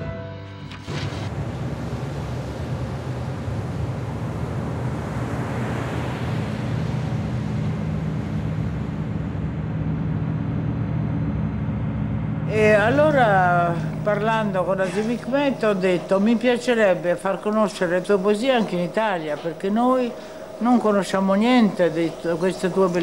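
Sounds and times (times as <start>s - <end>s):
water rushing: 0.9s - 9.3s, 12.4s - 23.0s
boat engine humming: 0.9s - 23.0s.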